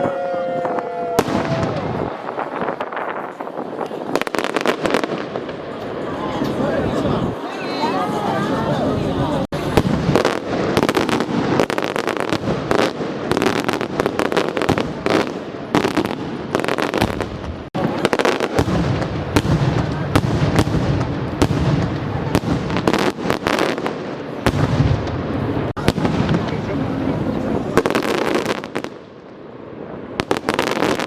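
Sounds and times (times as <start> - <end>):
low fireworks booming: 0.0 - 7.4, 9.2 - 31.0
fireworks bangs and crackles: 0.0 - 31.0.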